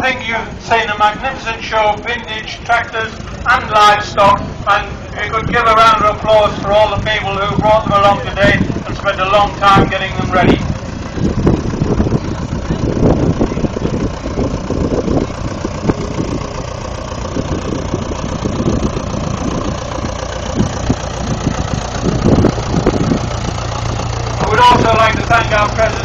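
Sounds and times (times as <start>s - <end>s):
tractor engine chugging: 0.0s - 26.0s.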